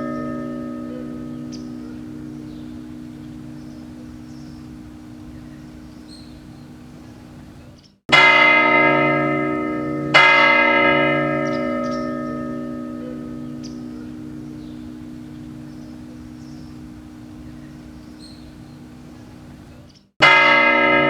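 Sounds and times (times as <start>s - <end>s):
clock tower bell striking: 0.0s - 6.1s, 8.1s - 18.8s, 20.2s - 21.0s.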